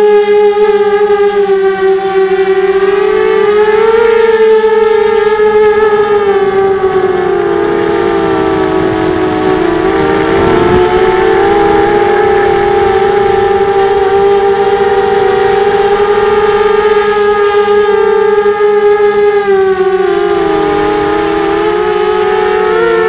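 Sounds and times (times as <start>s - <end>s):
quadcopter propellers whining: 0.0s - 23.0s.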